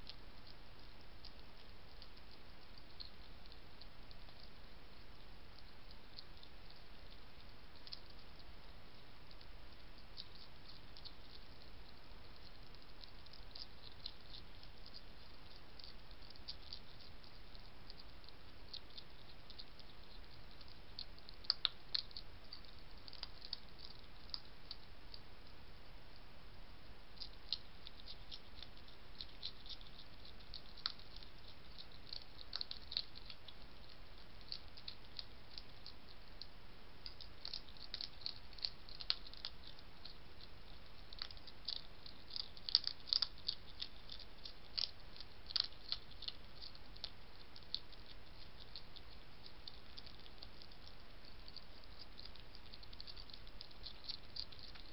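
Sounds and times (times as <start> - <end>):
hedgehog crunching pellets: 0.0 - 25.6, 27.1 - 54.9
steady hiss: 0.0 - 54.9.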